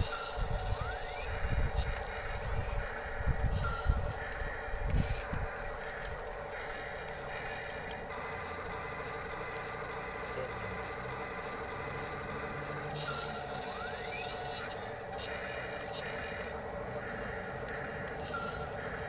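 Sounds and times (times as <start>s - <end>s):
toy electric motors whining: 0.0s - 19.0s.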